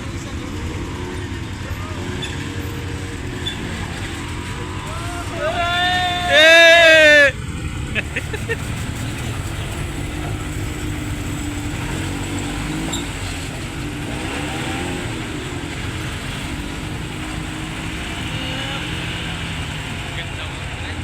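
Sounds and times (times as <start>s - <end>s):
off-road engine rumbling and revving: 0.0s - 21.0s.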